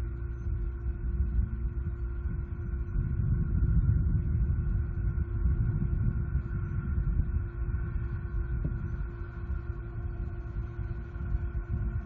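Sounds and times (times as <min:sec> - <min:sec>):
faint microphone hum: 0:00.0 - 0:12.0
low rumble: 0:00.0 - 0:12.0.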